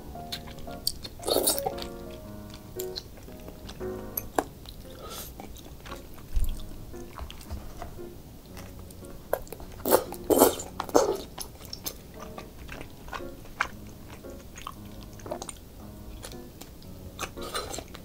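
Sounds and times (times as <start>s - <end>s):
wet chewing: 0.0s - 18.0s.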